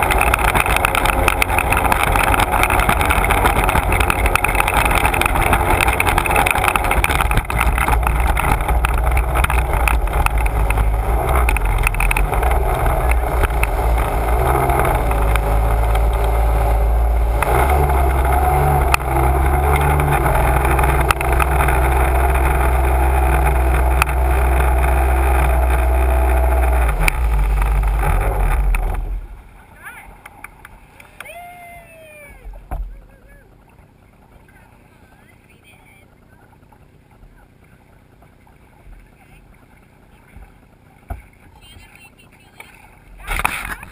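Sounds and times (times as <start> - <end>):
watercraft engine drone: 0.0 - 43.9.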